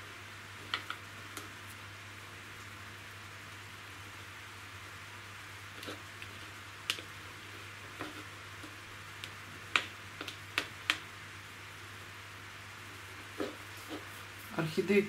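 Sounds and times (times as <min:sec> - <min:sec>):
steady faint hiss: 0:00.0 - 0:15.0.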